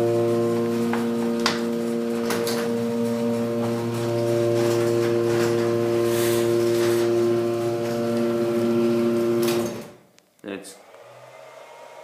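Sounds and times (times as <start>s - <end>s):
garage door opener motor hum: 0.0s - 10.0s, 10.8s - 12.0s.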